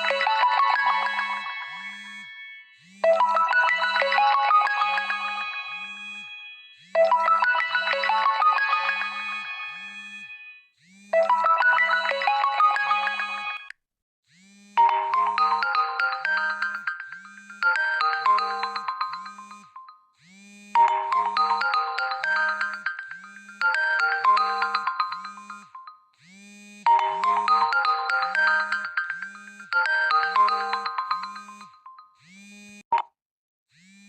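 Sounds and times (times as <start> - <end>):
chiming ringtone melody: 0.0 - 13.7, 14.8 - 20.2, 20.8 - 26.1, 26.9 - 32.2
different phone tone: 0.0 - 13.7, 14.8 - 20.0, 20.8 - 26.0, 26.9 - 33.2.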